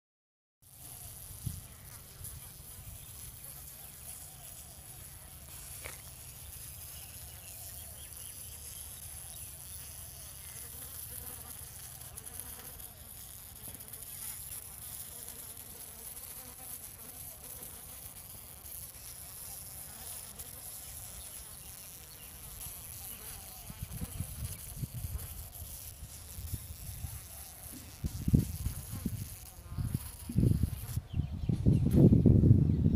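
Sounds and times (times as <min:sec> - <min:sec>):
flies buzzing: 0:00.6 - 0:31.1.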